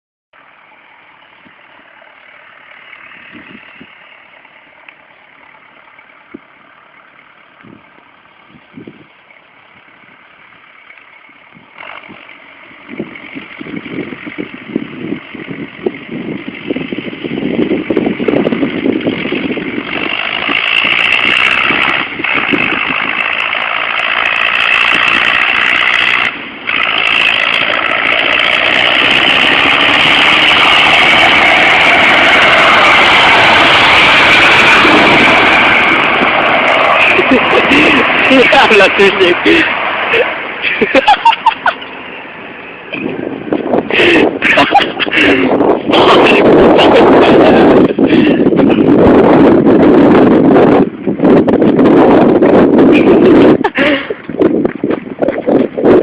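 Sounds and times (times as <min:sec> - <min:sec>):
tractor engine running: 0:00.4 - 0:56.0.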